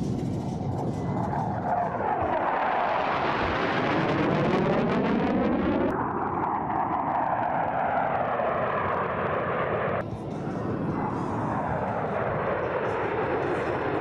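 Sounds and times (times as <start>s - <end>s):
fighter jets flying past: 0.0s - 14.0s.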